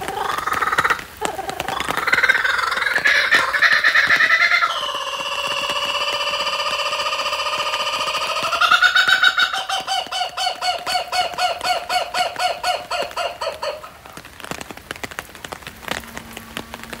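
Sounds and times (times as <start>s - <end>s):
kookaburra laughing call: 0.0s - 14.0s.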